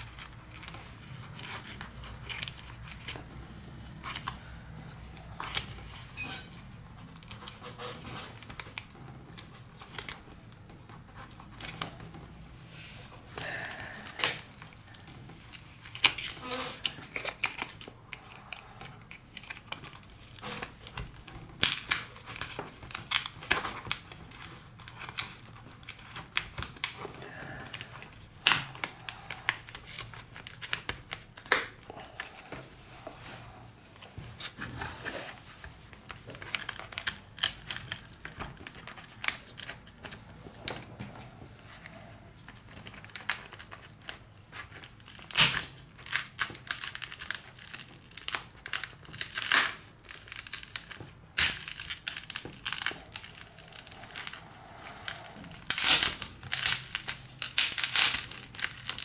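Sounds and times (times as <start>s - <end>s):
adhesive crackling and clicking: 0.0s - 12.3s, 13.4s - 31.9s, 35.9s - 59.0s.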